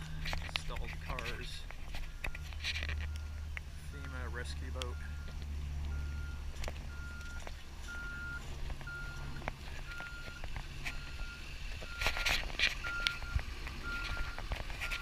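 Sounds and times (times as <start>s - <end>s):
low steady rumble: 0.0s - 15.0s
reversing alarm beeping: 2.1s - 12.2s, 12.8s - 15.0s.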